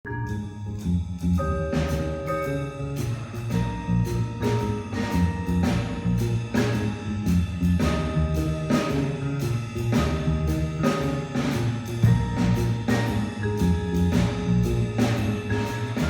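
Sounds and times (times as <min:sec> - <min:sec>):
electric bass: 0:00.0 - 0:16.0
vibraphone notes: 0:00.1 - 0:16.0
drum kit beat: 0:00.3 - 0:16.0.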